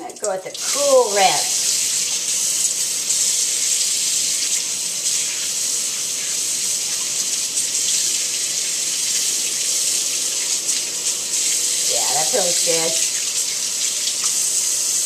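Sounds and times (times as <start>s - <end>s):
faucet water splashing over hands: 0.0s - 15.0s.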